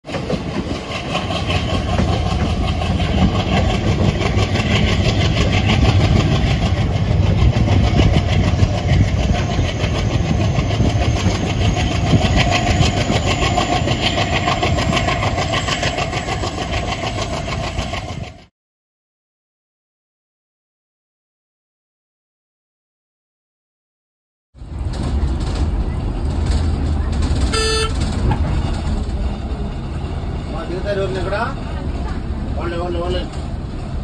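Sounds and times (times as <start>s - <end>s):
train coach rattling on rails: 0.0s - 18.5s, 24.6s - 34.0s
locomotive engine working: 0.1s - 18.5s, 24.6s - 34.0s.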